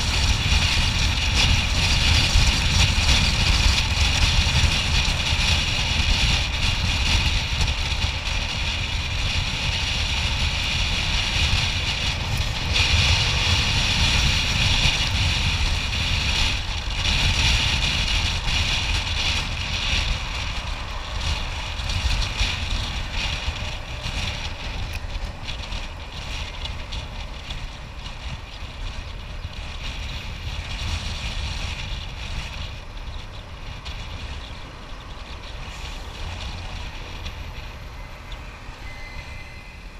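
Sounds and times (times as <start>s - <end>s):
low rumble of engine and road: 0.0s - 39.9s
wind rushing over microphone: 0.0s - 39.9s.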